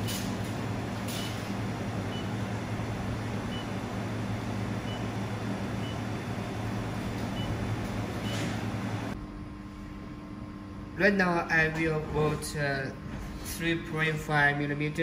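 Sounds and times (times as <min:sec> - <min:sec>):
machine hum and fan noise: 0:00.0 - 0:15.0.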